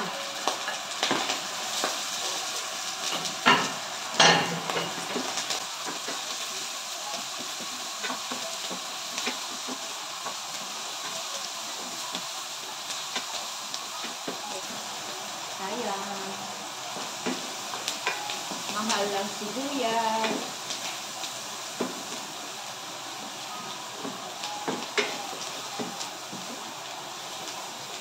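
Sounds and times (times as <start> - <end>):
onion and meat sizzling in oil: 0.0 - 28.0.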